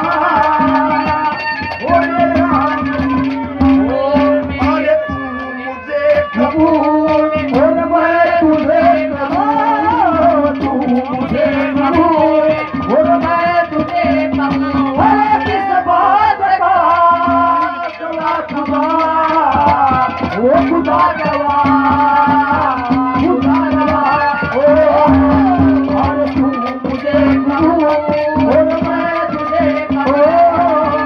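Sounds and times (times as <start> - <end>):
ornamented melody: 0.0 - 31.0
steady tabla beat: 0.0 - 31.0.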